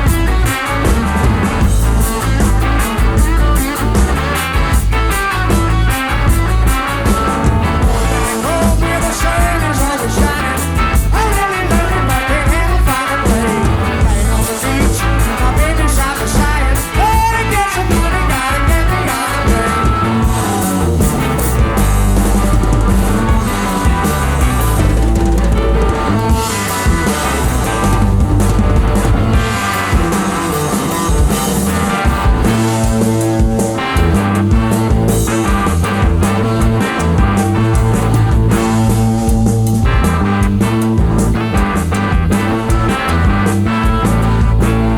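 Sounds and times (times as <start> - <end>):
rock song: 0.0 - 44.9.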